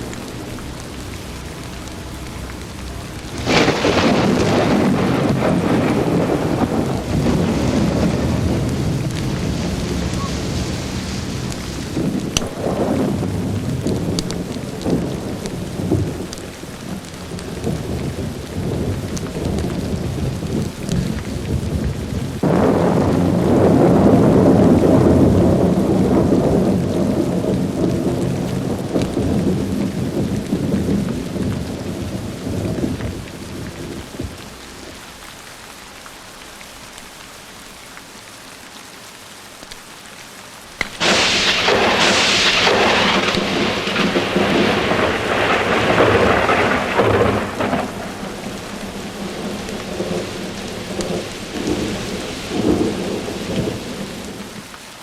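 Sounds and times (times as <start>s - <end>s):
rolling thunder: 0.0s - 34.6s, 40.9s - 54.6s
steady rain: 0.0s - 55.0s
sharp thunderclap: 3.2s - 34.4s, 40.8s - 54.6s.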